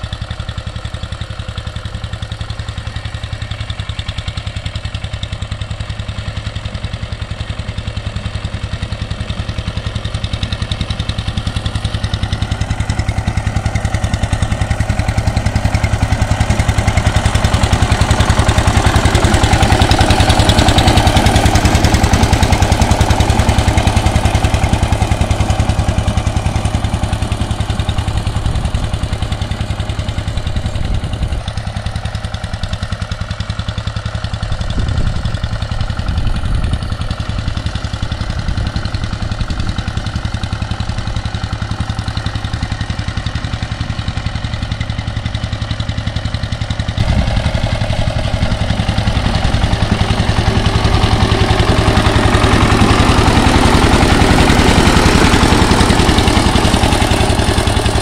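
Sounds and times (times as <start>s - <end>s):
diesel tiller engine running: 0.0s - 58.0s.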